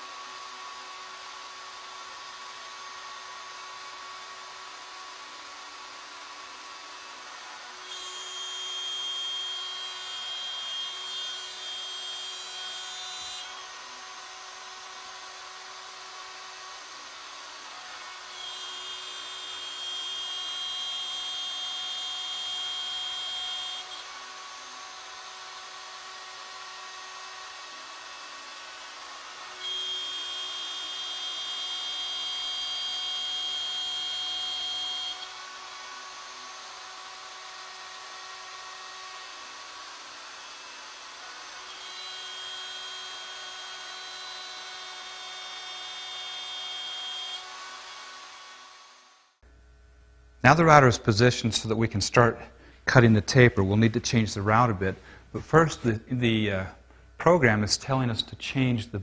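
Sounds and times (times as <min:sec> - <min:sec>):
router milling wood: 0:00.0 - 0:49.4.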